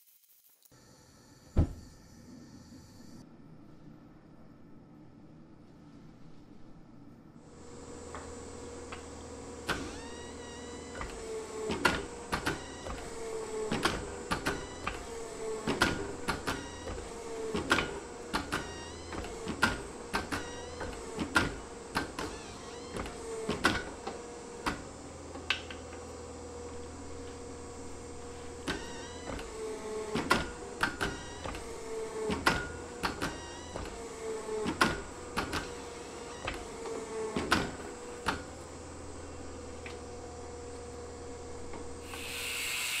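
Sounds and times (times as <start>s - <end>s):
steady machine hum: 0.8s - 43.0s.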